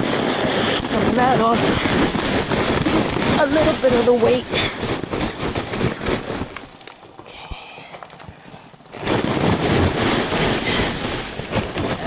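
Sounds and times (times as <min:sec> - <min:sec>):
snow sliding off roof: 0:00.0 - 0:07.0, 0:08.5 - 0:12.0.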